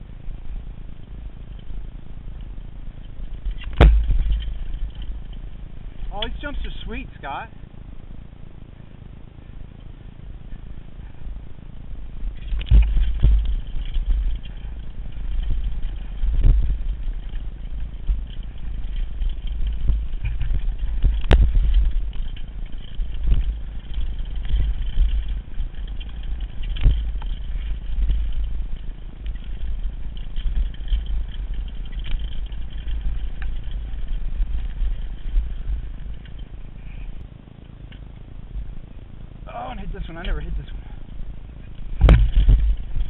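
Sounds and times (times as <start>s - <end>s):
bike knocking on bumps: 0.0s - 8.2s, 9.8s - 43.0s
mountain bike rattling over dirt: 0.0s - 43.0s.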